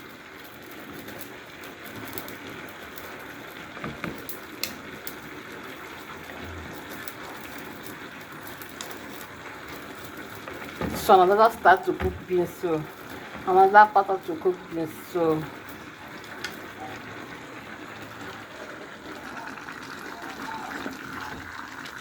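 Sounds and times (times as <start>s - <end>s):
pot of beans bubbling: 0.0s - 22.0s.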